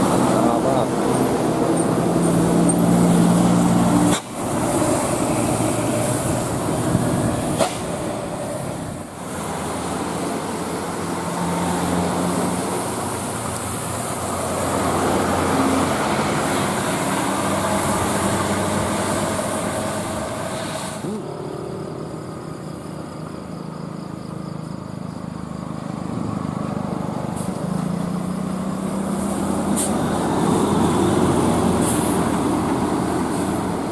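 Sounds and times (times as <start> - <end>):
buses passing: 0.0 - 33.9
road traffic noise: 0.0 - 33.9.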